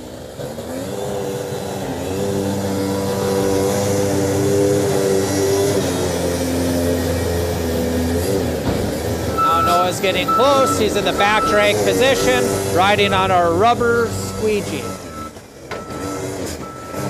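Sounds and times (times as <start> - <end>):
diesel engine running hard: 0.0 - 17.0
snowblower clearing snow: 0.0 - 17.0.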